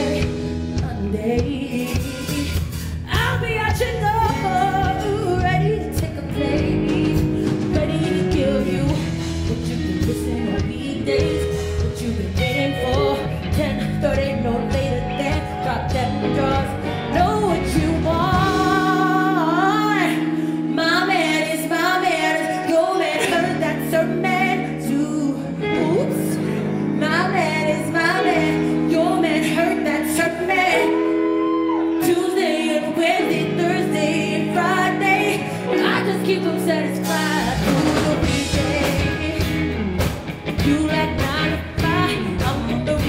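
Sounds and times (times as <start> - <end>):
live band playing: 0.0 - 43.0
woman singing: 0.0 - 43.0.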